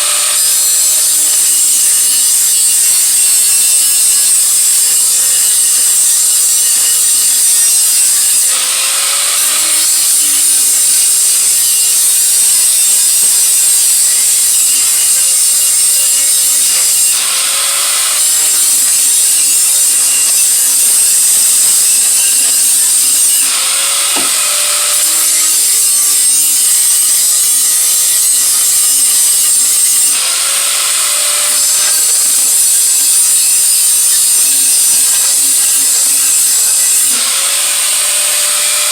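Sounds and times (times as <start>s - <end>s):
power tool grinding metal: 0.0s - 38.9s.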